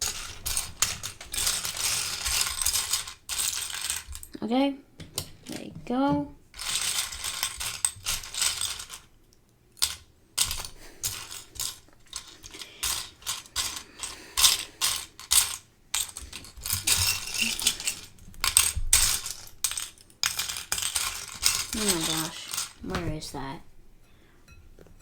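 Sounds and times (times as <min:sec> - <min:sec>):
plastic bricks clattering: 0:00.0 - 0:04.3, 0:06.6 - 0:09.1, 0:09.8 - 0:23.4.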